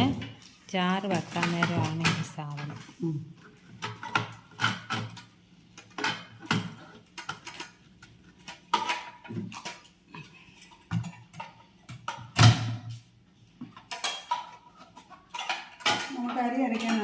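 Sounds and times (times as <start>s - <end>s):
appliance parts clicking and clattering: 0.0s - 17.0s.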